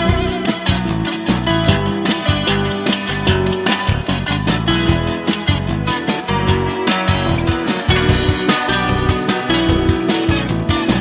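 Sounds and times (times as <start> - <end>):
rock song with guitar: 0.0 - 11.0.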